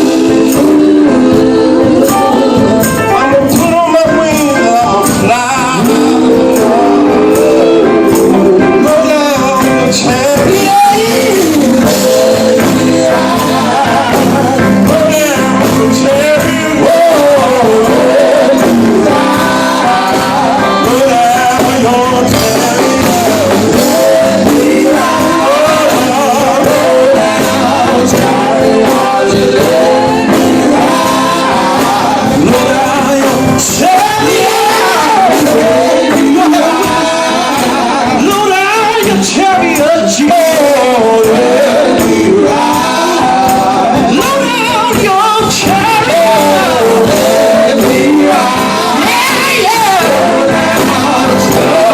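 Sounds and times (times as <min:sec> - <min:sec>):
full band playing: 0:00.0 - 0:51.9
group singing gospel: 0:00.0 - 0:51.9.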